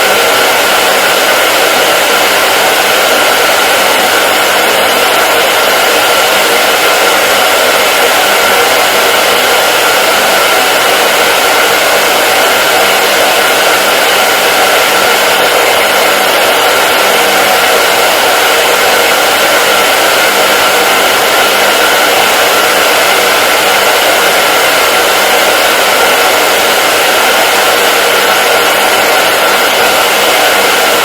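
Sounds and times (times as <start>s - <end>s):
hair dryer airflow hiss: 0.0s - 31.0s.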